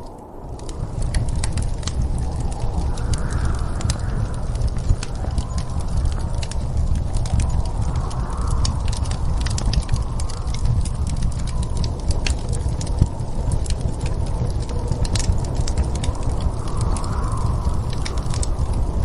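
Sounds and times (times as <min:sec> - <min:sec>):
fireplace crackling: 0:00.0 - 0:19.0
low rumble of storm wind: 0:00.0 - 0:19.0.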